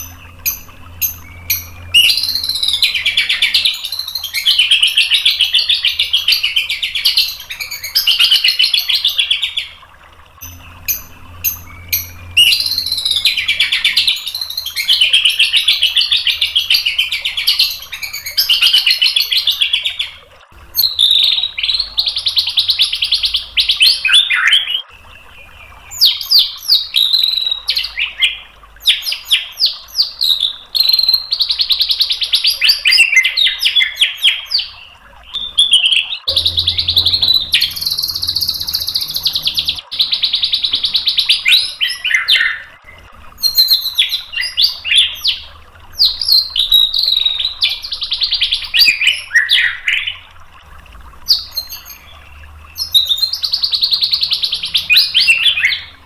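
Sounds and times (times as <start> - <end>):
bird singing trills and whistles: 0.0 - 50.3, 51.2 - 56.0.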